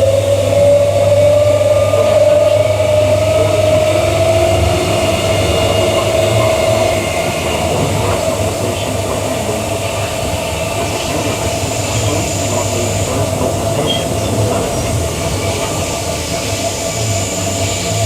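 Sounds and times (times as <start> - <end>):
constant tone: 0.0 - 18.0
train wheels rumbling on track: 0.0 - 18.0.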